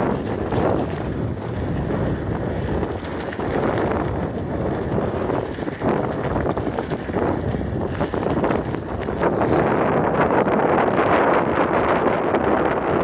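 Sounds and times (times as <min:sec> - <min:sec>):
bike rattles and knocks: 0:00.0 - 0:11.4
wind buffeting microphone: 0:00.0 - 0:13.0.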